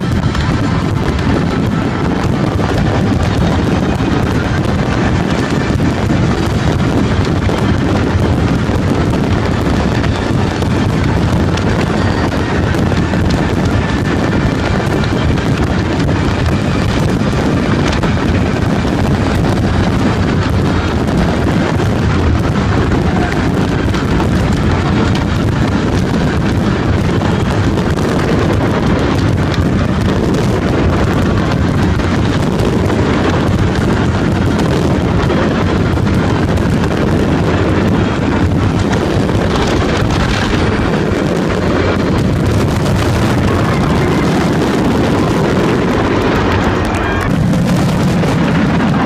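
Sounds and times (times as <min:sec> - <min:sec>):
fireworks booming and crackling: 0:00.0 - 0:49.0.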